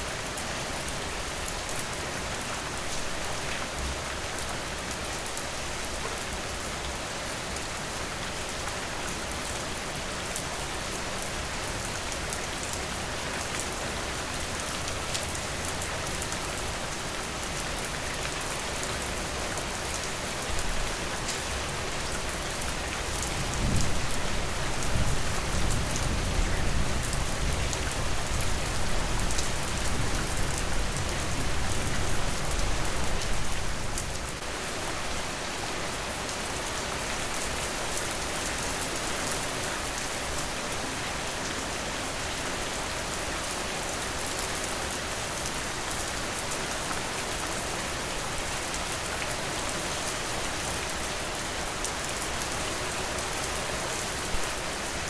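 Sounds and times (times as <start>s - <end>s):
rain falling on surfaces: 0.0s - 55.0s.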